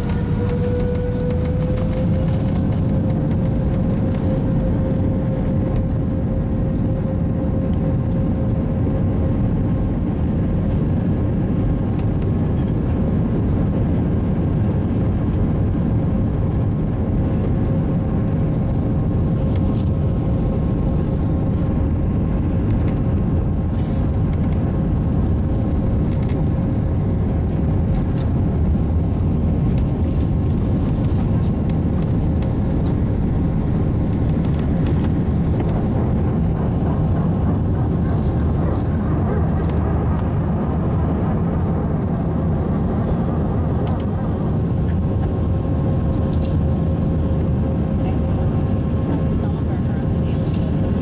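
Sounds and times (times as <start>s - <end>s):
jet engines at takeoff thrust: 0.0s - 51.0s
wheels rolling on runway: 0.0s - 51.0s.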